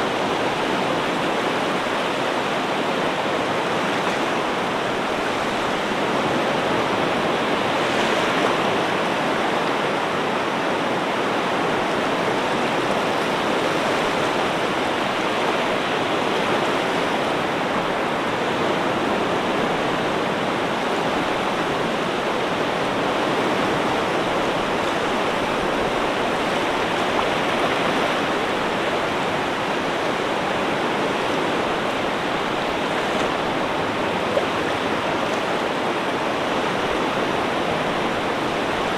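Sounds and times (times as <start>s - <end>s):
ocean surf rushing: 0.0s - 38.9s.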